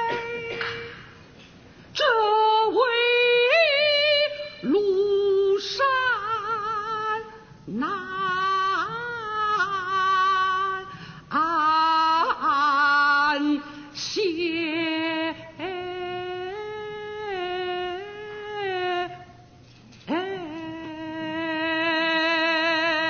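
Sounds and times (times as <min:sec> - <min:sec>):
opera singer singing with vibrato: 0:00.0 - 0:01.3, 0:01.9 - 0:23.0.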